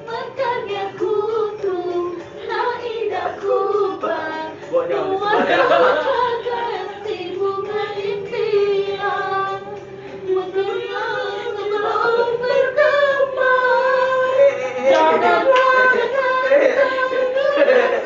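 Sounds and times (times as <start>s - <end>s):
high singing voice: 0.0s - 18.0s.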